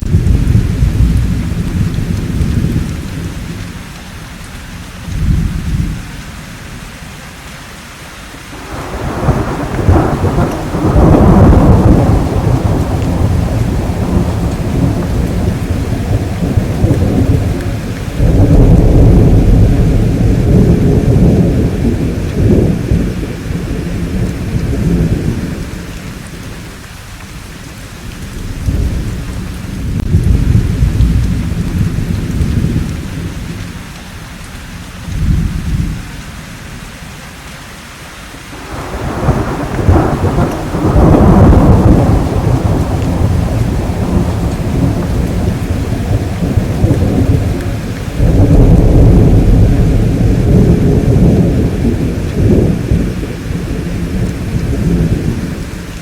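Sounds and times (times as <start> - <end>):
rolling thunder: 0.0 - 4.0, 4.7 - 6.3, 8.6 - 36.8, 38.6 - 56.0
steady rainfall: 0.0 - 56.0.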